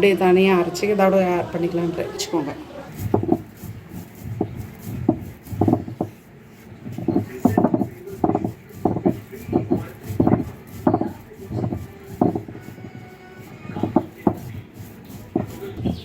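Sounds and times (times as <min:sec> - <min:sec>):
stone roller scraping on stone: 0:00.0 - 0:16.0.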